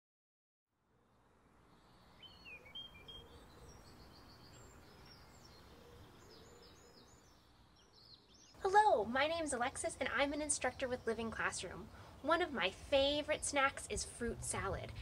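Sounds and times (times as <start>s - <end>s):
small birds chirping: 1.7s - 15.0s.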